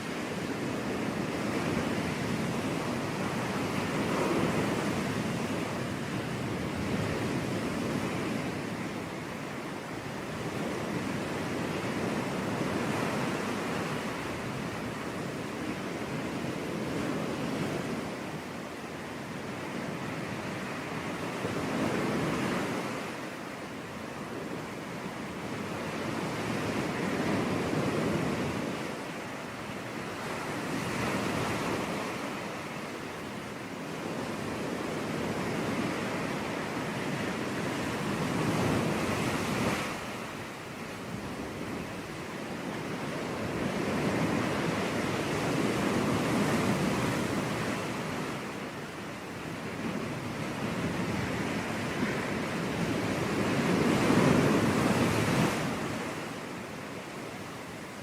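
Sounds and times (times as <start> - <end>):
sea waves breaking on a beach: 0.0 - 58.0.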